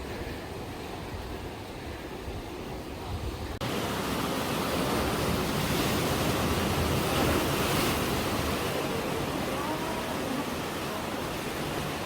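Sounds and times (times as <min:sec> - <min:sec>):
waves washing on shore: 0:00.0 - 0:12.0.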